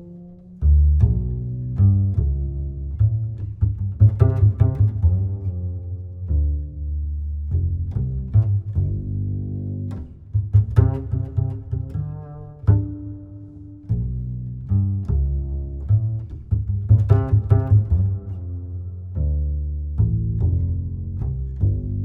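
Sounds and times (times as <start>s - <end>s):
deep bass line: 0.0s - 22.0s.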